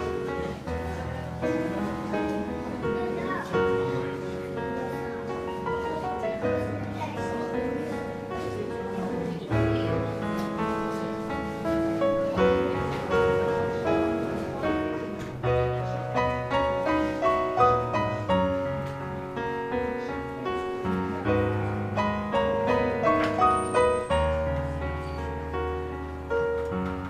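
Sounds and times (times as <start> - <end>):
calm piano music: 0.0 - 27.0.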